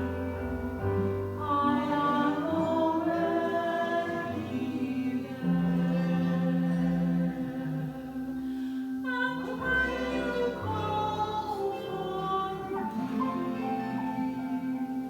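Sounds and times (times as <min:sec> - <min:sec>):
congregation singing a prayer: 0:00.0 - 0:15.0.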